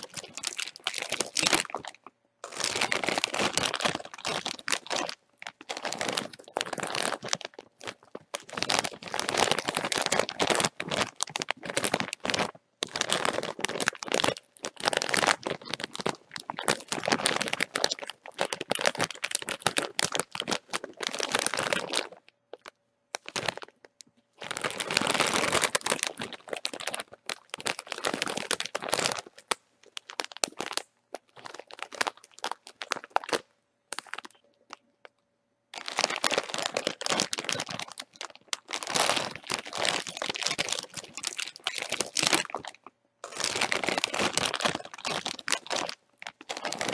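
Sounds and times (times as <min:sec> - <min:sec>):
bag of chips crinkling: 0:00.0 - 0:23.8, 0:24.4 - 0:34.8, 0:35.8 - 0:46.9.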